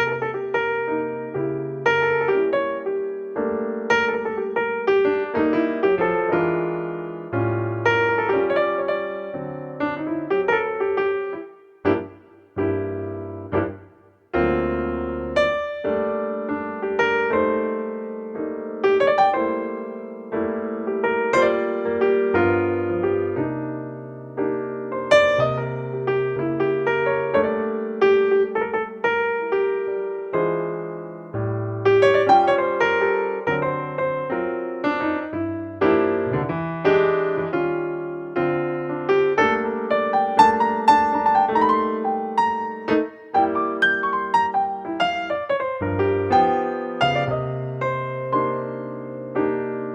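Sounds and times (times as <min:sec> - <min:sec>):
solo piano playing: 0:00.0 - 0:49.9.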